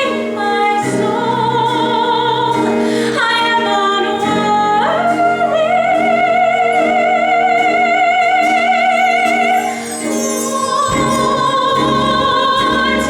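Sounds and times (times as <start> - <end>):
musical accompaniment: 0.0 - 13.0
woman singing a slow ballad: 0.0 - 13.0.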